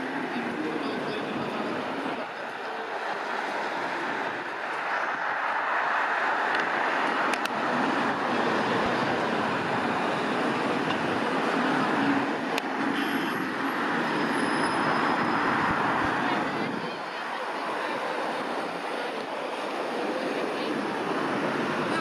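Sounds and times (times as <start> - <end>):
traffic noise: 0.0 - 22.0
tram rumbling: 0.0 - 22.0.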